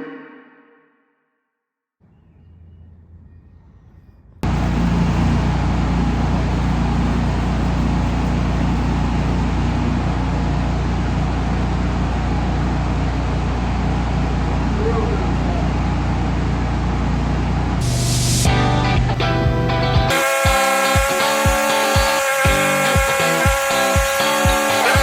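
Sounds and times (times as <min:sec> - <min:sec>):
loud steady engine: 0:04.4 - 0:25.0.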